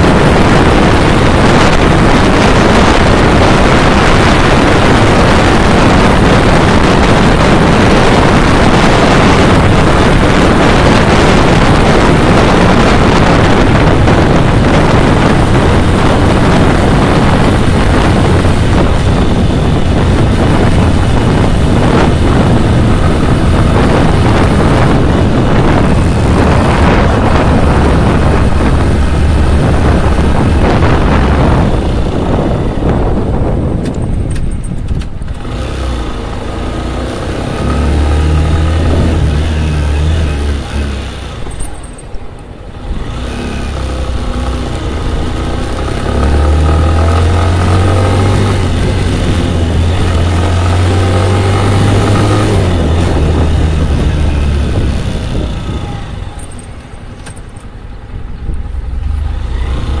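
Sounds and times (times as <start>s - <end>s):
motorcycle engine hum: 0.0s - 60.0s
road noise: 0.0s - 60.0s
wind rush: 0.0s - 60.0s.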